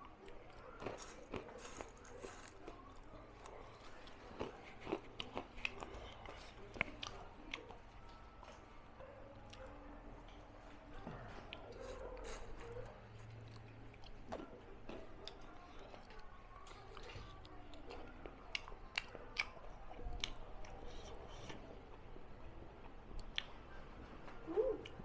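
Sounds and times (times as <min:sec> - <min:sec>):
person chewing food: 0:00.1 - 0:09.7, 0:10.3 - 0:22.1.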